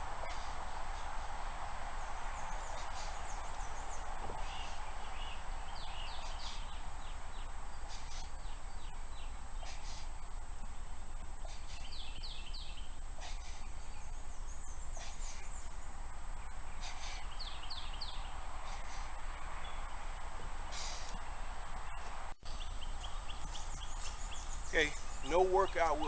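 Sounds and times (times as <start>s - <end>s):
small birds chirping: 0.0s - 26.0s
steady low hum and hiss: 0.0s - 26.0s.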